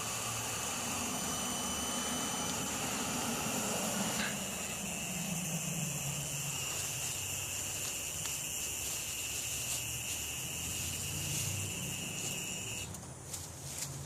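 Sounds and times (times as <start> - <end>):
high-pitched electronic whine: 0.0 - 12.9
wavering low buzz: 0.0 - 12.9.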